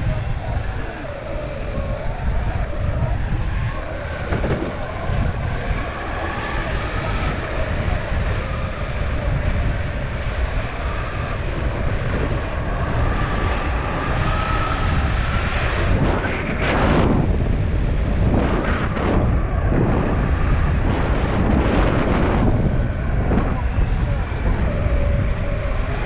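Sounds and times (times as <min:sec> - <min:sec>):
wheels rumbling on asphalt: 0:00.0 - 0:26.0
wind rushing over microphone: 0:00.0 - 0:26.0.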